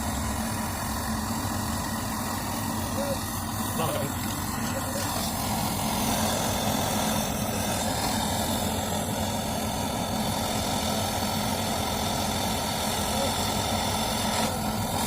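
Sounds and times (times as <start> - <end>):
electric machine humming: 0.0 - 15.0.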